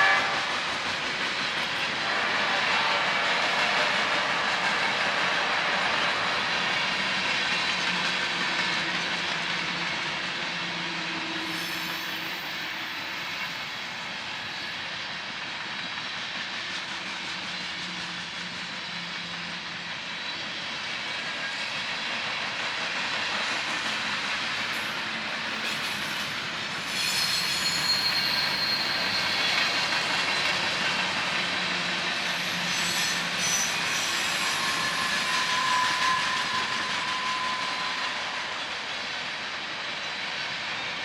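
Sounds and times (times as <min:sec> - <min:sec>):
train wheels rushing on rail: 0:00.0 - 0:41.0.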